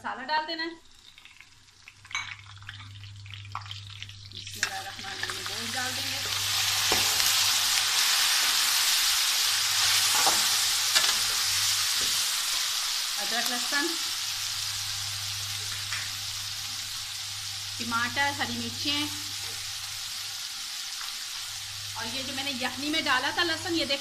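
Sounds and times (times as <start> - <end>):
meat sizzling in hot oil: 0.8 - 24.0.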